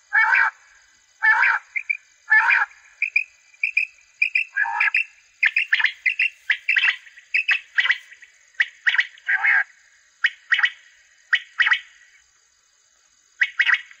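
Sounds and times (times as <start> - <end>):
recorded quail calls through loudspeakers: 0.0 - 11.9, 13.4 - 14.0.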